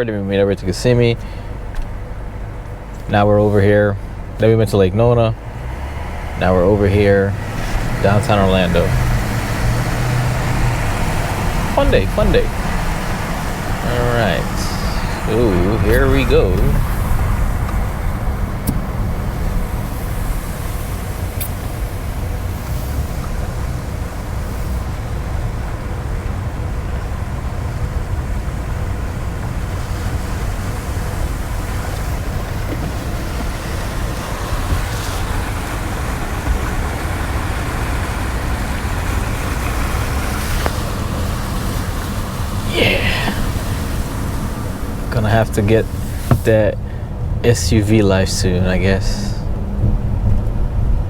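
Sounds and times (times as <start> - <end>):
car engine and tyres rumbling: 0.0 - 51.0
water rushing under car: 0.0 - 51.0.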